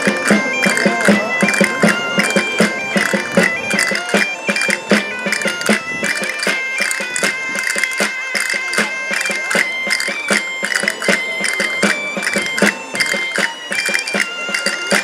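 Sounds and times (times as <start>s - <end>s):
bagpipe playing dance tune: 0.0s - 15.0s
regular drum beat: 0.0s - 15.0s.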